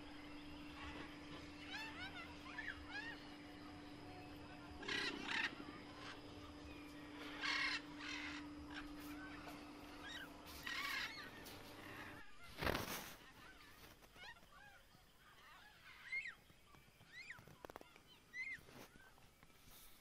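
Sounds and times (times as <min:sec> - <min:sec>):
bird calling: 0:00.0 - 0:19.2
faint steady hum: 0:00.0 - 0:20.0.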